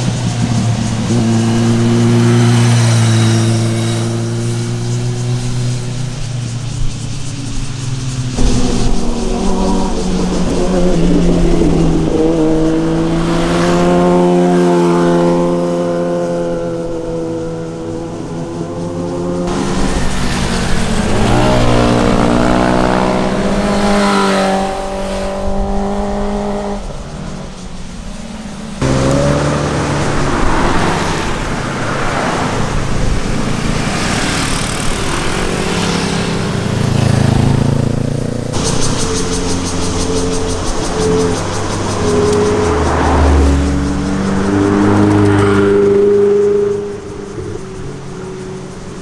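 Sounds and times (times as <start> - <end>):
motorcycles passing: 0.0 - 49.0
sports car passing: 0.0 - 49.0.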